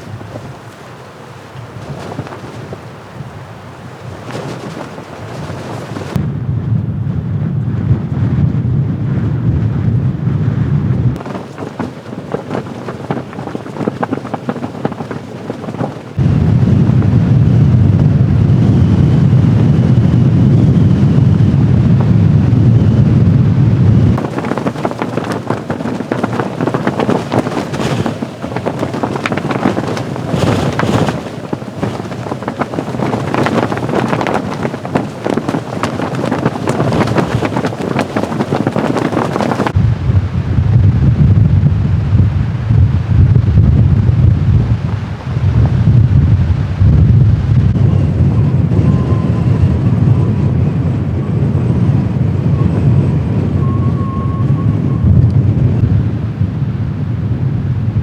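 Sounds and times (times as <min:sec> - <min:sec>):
blizzard wind buffeting microphone: 0:00.0 - 0:58.0
heavy low rumble: 0:05.3 - 0:11.2, 0:16.1 - 0:38.6, 0:39.5 - 0:58.0.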